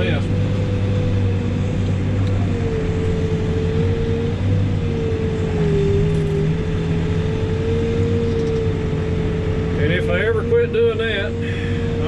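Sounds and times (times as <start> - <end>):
diesel engine running: 0.0 - 12.0
steady whine: 0.0 - 12.0.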